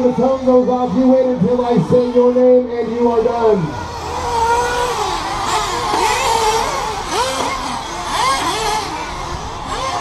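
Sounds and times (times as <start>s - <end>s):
small glow engines whining and revving: 0.0s - 10.0s.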